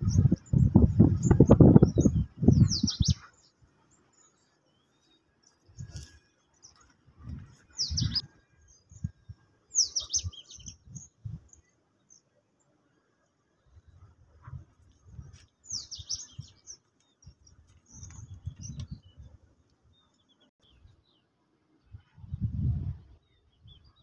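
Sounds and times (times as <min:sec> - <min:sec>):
small birds chirping: 0:00.0 - 0:12.3, 0:13.6 - 0:21.3.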